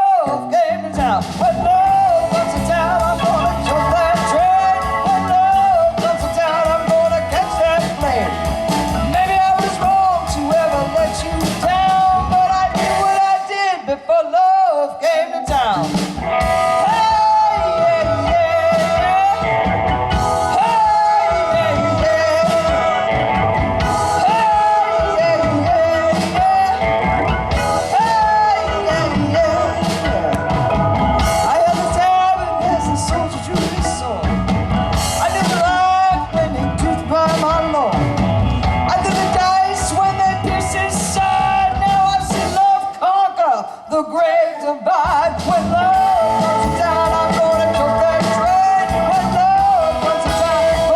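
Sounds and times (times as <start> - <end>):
bending lead guitar melody: 0.0 - 13.5, 15.2 - 42.8, 45.1 - 50.9
live rock band playing: 0.0 - 50.9
person singing: 0.0 - 50.9.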